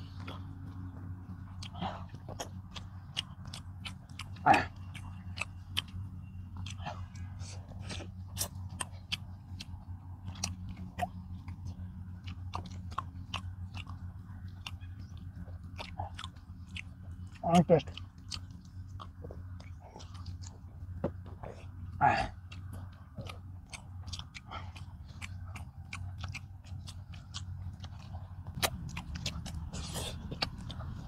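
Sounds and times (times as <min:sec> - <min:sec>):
low hum: 0:00.0 - 0:31.0
people chewing and smacking lips: 0:00.0 - 0:31.0
wet mouth clicks: 0:01.5 - 0:06.0, 0:06.6 - 0:20.6, 0:21.4 - 0:31.0.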